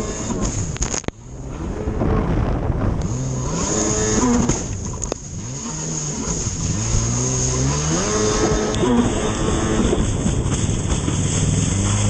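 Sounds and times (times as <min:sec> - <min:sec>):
jet ski engine revving: 0:00.0 - 0:12.0.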